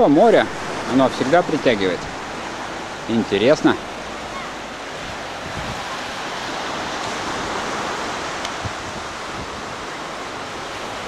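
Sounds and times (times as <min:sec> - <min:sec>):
surf waves breaking on beach: 0:00.0 - 0:11.0.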